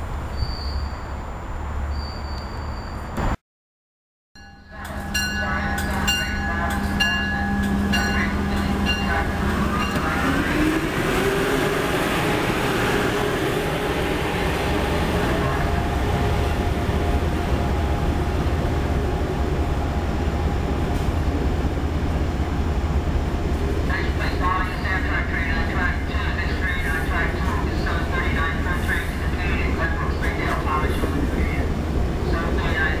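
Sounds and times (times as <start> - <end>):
electric locomotive whine: 4.6 - 33.0
train rolling rumble: 4.7 - 33.0.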